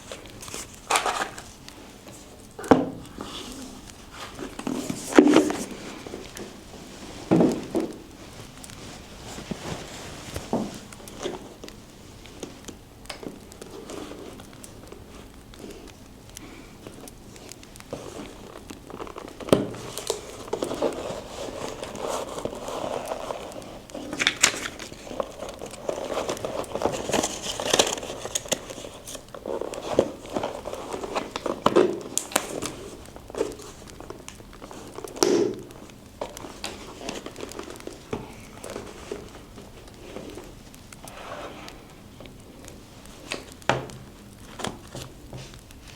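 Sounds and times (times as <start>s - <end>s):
paper rustling and crinkling: 0.0s - 45.9s.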